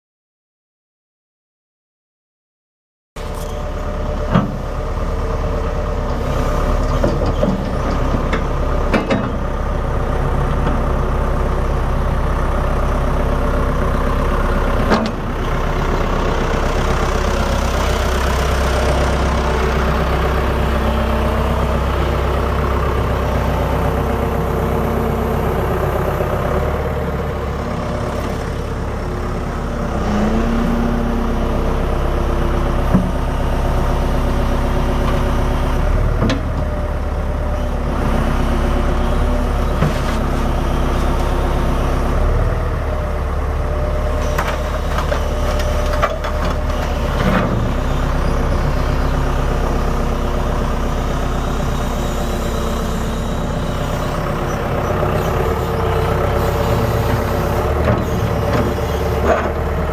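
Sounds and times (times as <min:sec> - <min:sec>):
excavator diesel engine running: 0:03.2 - 0:59.9.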